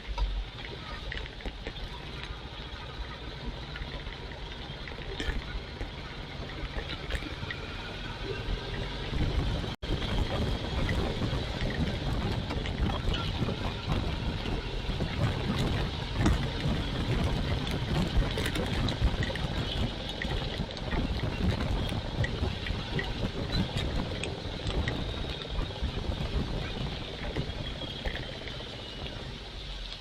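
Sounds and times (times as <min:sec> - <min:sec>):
motorcycle engine running: 0:00.0 - 0:29.8
wind and road noise: 0:00.0 - 0:30.0.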